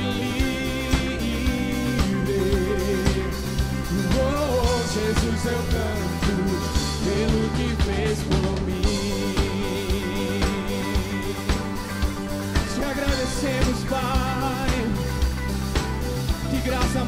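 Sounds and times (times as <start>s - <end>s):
man singing into a microphone: 0.0s - 11.8s, 12.6s - 15.2s, 16.4s - 17.0s
bass and guitars: 0.0s - 17.0s
drum kit beat: 0.0s - 17.0s.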